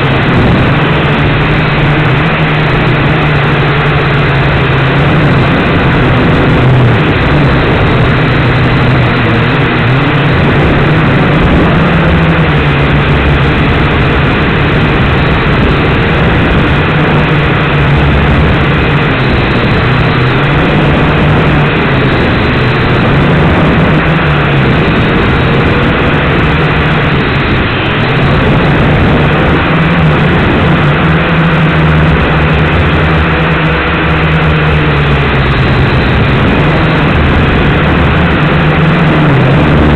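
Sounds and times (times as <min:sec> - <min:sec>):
dense rushing noise: 0:00.0 - 0:39.9
drone propellers buzzing: 0:00.0 - 0:39.9.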